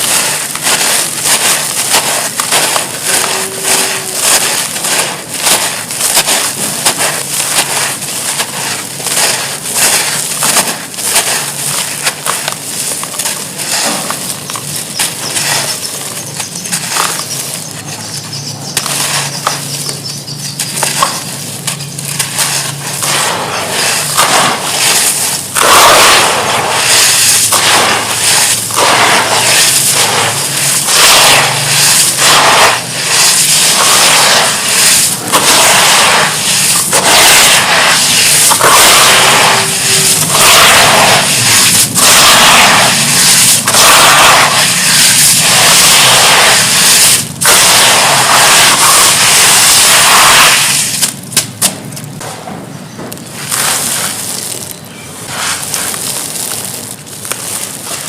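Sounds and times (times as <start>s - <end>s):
charcoal being crushed: 0.0s - 52.2s, 53.1s - 58.0s.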